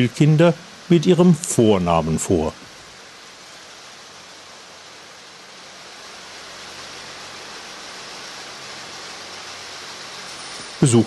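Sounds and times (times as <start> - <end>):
hall ambience hiss: 0.0 - 11.0.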